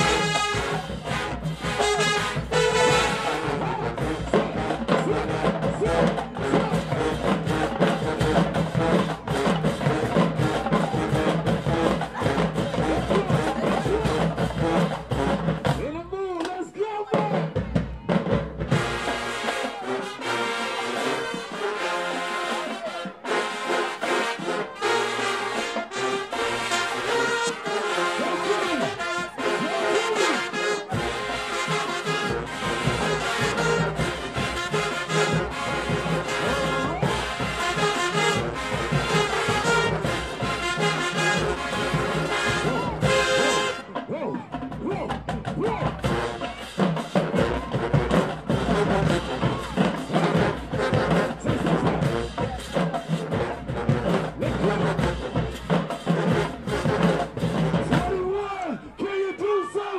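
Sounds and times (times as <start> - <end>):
drumline drums: 0.0 - 59.9
marching band brass: 0.0 - 59.9.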